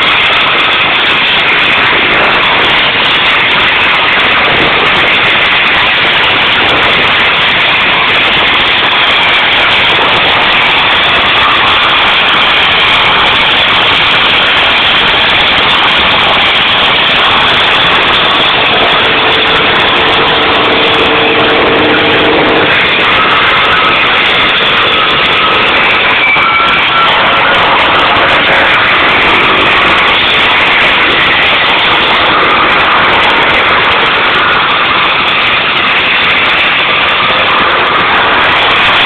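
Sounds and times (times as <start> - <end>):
branch chipper running: 0.0 - 39.0
steady humming tones: 0.0 - 39.0.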